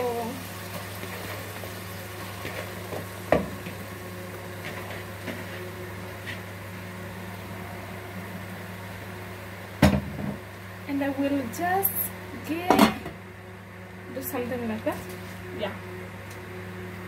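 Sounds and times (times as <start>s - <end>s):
stew sizzling in a pot: 0.0s - 15.8s
steady electrical hum: 0.0s - 17.0s.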